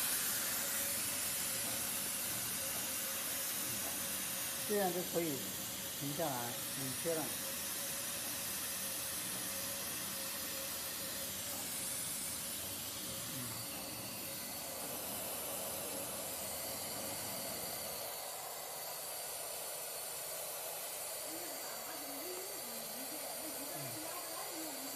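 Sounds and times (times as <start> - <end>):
hot air hissing through tube: 0.0 - 24.9.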